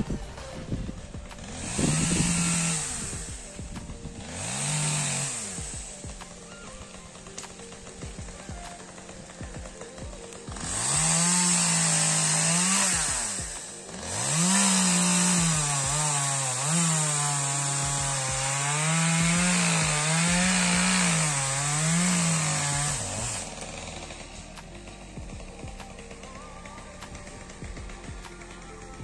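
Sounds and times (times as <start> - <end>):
chainsaw cutting wood: 0.0 - 29.0.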